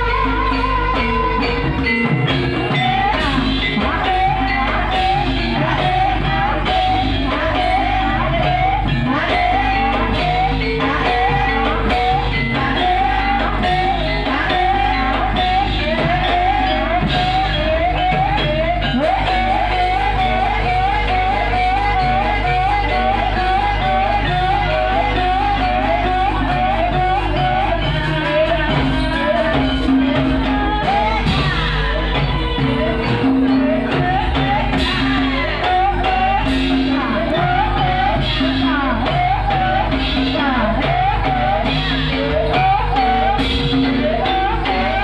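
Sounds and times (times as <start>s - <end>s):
gamelan music: 0.0s - 45.0s
person singing wavering melody: 0.0s - 45.0s.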